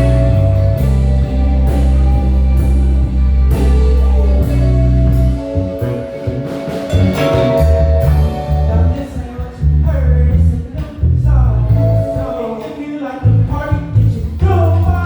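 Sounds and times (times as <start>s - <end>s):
lead melody line: 0.0s - 10.7s, 11.5s - 13.6s
bass guitar notes: 0.0s - 15.0s
drums: 0.0s - 15.0s
keyboards: 0.0s - 15.0s.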